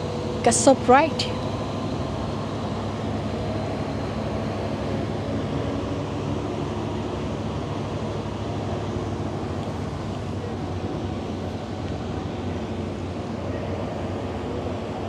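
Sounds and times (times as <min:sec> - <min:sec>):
ferry engine drone: 0:00.0 - 0:15.0.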